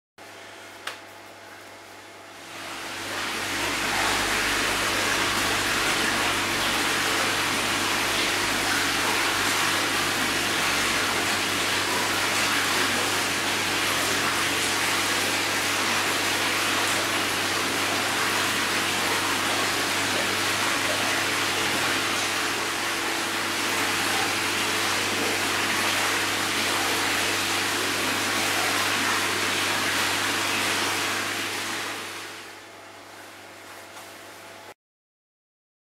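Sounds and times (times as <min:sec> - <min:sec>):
pump humming: 0:00.2 - 0:34.8
running water: 0:02.4 - 0:34.2.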